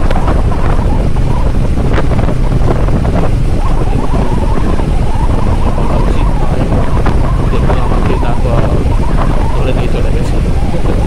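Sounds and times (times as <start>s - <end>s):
motorcycle engine: 0.0s - 11.0s
road noise: 0.0s - 11.0s
wind buffeting on microphone: 0.0s - 11.0s.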